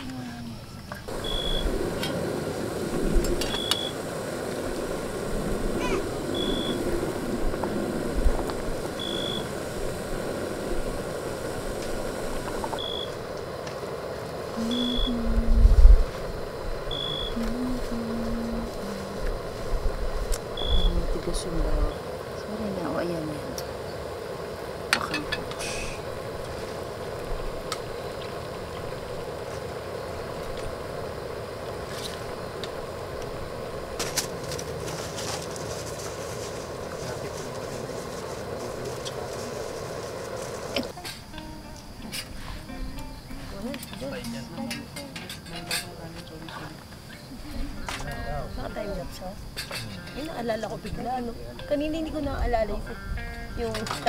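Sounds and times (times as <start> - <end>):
camp stove burner: 0.0 - 52.6.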